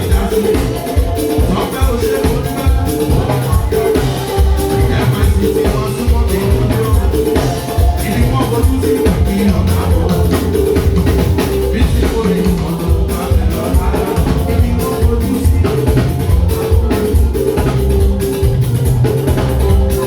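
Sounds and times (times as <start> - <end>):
people singing: 0.0 - 18.4
drum kit and bass beat: 0.0 - 20.0
live band music: 0.0 - 20.0.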